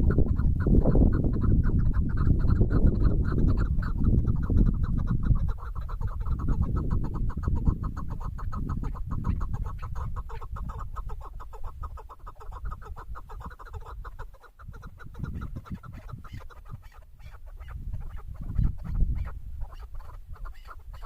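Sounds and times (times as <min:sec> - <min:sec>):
partridge clucking call: 0:00.0 - 0:21.0.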